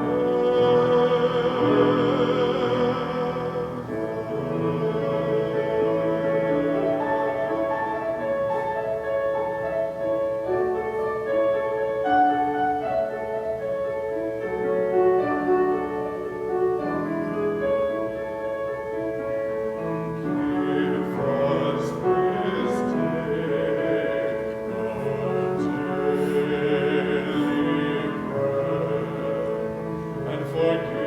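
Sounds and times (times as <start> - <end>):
slow keyboard chords: 0.0 - 31.0.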